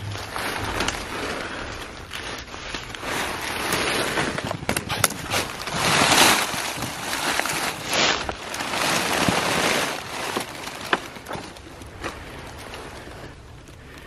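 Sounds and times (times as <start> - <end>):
dry grass rustling: 0.0 - 14.0
sharp crackles: 0.0 - 14.0.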